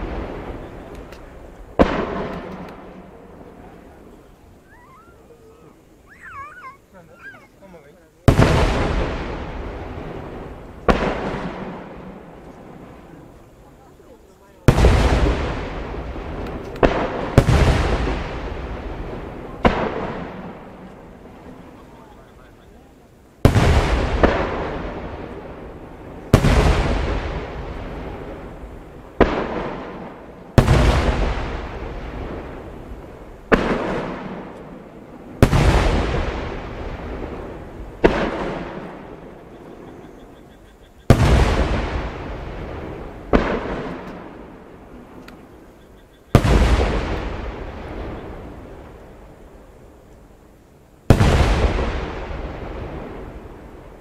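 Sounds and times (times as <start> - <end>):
firework booms: 0.0 - 50.2, 51.0 - 54.0
firework rumble: 0.0 - 54.0.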